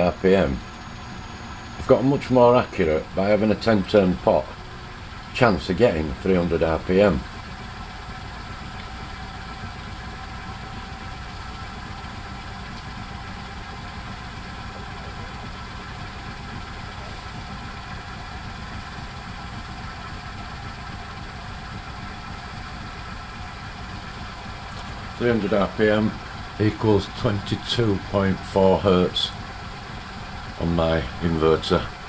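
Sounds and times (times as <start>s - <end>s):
lathe motor hum and whine: 0.0s - 32.0s.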